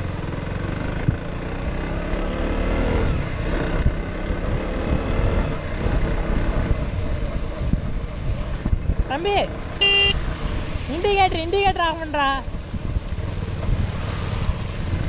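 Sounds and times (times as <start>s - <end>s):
motorcycle engine running: 0.0s - 15.0s
wind buffeting microphone: 0.1s - 2.1s, 2.7s - 15.0s.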